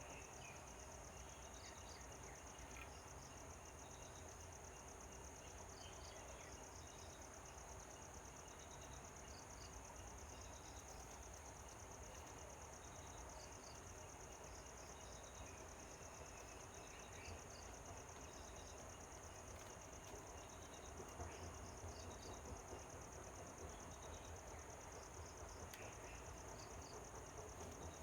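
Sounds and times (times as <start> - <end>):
insect chirps: 0.1 - 28.0.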